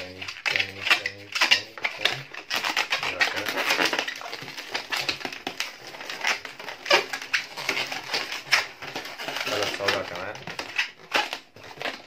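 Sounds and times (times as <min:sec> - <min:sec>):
balloons squeaking and rubbing: 0:00.0 - 0:12.0.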